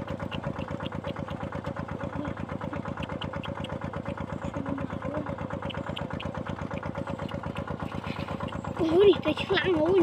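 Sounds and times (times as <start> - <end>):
water pump engine running: 0.0 - 10.0.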